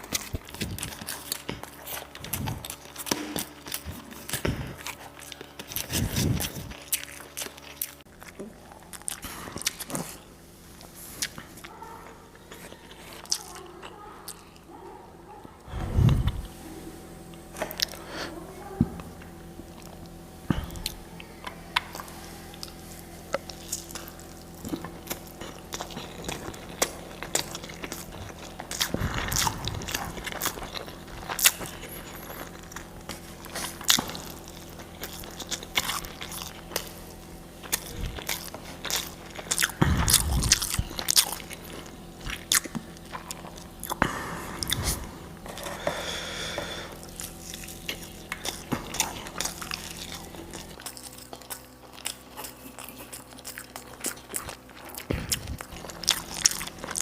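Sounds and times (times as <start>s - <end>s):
food crunching: 0.0s - 18.2s, 19.0s - 57.0s
person chewing: 0.0s - 18.4s, 19.0s - 57.0s.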